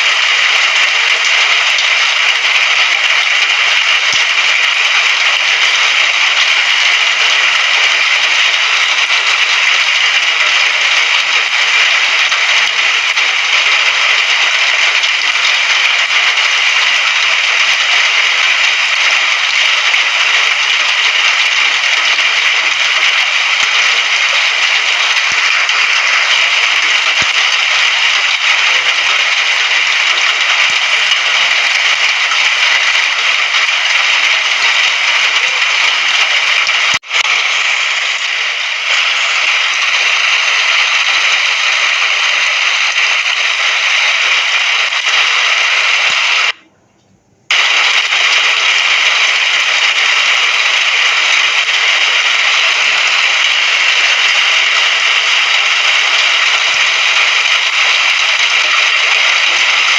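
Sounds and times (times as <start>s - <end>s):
steady rain: 0.0s - 46.6s, 47.5s - 59.9s.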